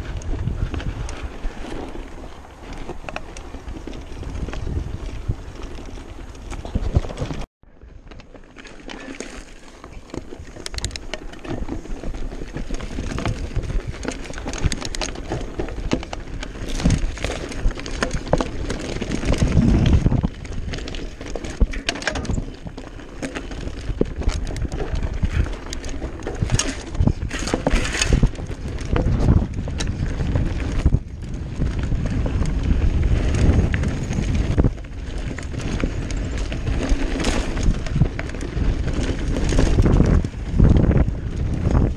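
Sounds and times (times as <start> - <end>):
bike rattling over rocks: 0.0 - 41.9
tyres crunching on gravel: 8.2 - 41.9.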